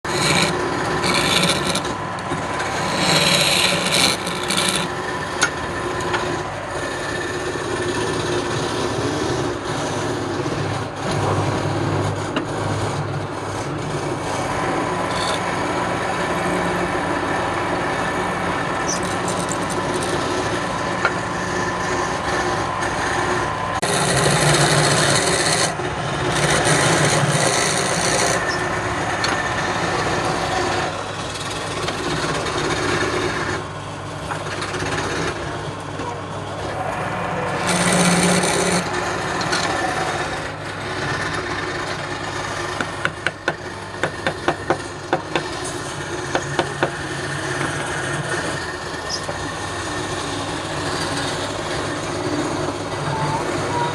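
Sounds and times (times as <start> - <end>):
lathe motor hum: 0.0 - 53.9
tool scraping spinning wood: 0.0 - 53.9.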